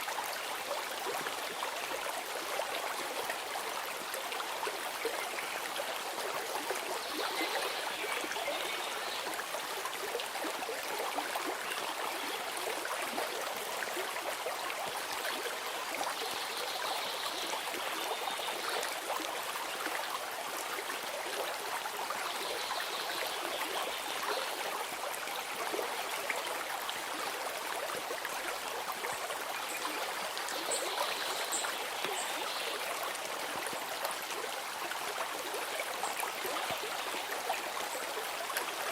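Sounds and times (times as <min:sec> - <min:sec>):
stream babbling: 0:00.0 - 0:38.9.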